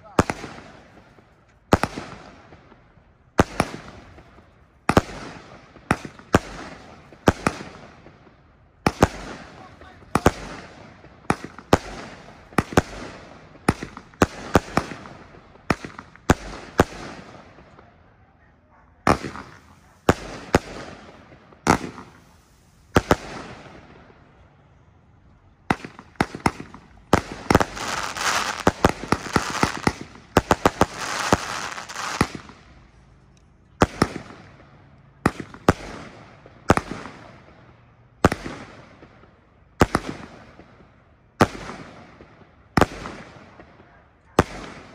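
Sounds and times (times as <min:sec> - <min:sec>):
firework bangs: 0:00.0 - 0:17.9, 0:19.0 - 0:24.6, 0:25.5 - 0:32.8, 0:33.8 - 0:44.9
firework crackling: 0:00.0 - 0:17.9, 0:19.0 - 0:43.8.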